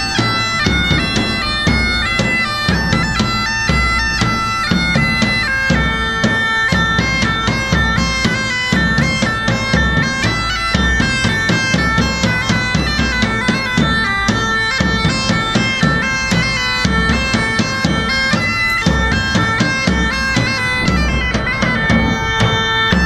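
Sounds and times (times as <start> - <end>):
bagpipe melody over drone: 0.0 - 23.0
bass drum beating: 0.0 - 23.0.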